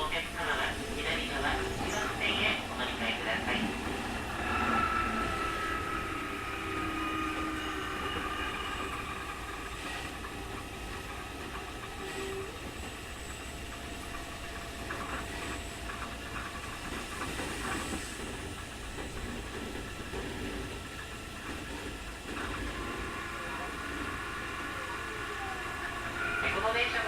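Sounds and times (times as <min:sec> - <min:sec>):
train motor and gear whine: 0:00.0 - 0:27.0
train rumble and hiss: 0:00.0 - 0:27.0.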